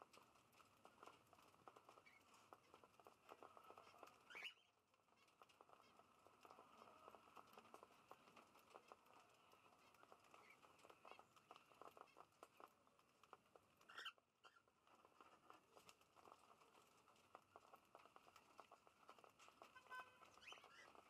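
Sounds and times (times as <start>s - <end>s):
birds pecking and cracking seed: 0.0s - 21.0s.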